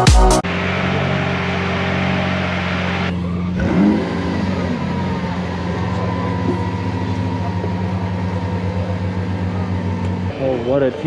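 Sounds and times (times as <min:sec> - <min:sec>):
car engine idling: 0:00.0 - 0:11.0
engine throttle blip: 0:00.4 - 0:11.0.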